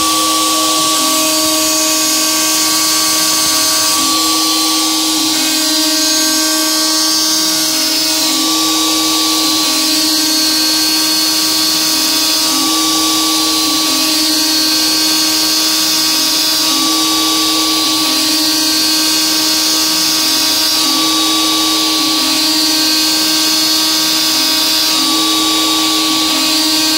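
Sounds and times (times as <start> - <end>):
lower motor tones: 0.0 - 26.9
router cutting aluminum whine: 0.0 - 26.9.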